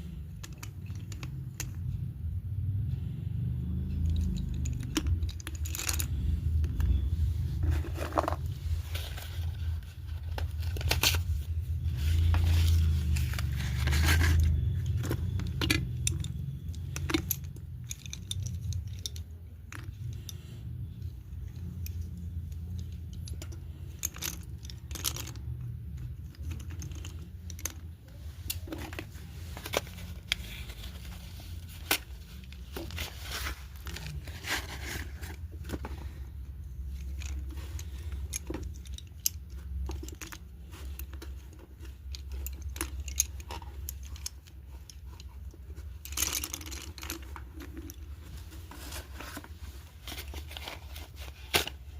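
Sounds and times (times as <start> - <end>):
rustling and scraping: 0.0 - 2.2, 2.8 - 51.9.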